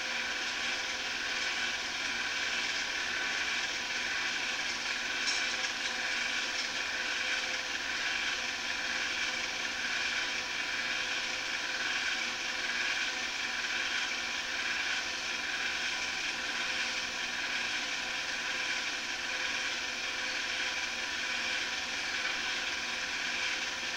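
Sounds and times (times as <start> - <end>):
film projector whirring: 0.0 - 23.9.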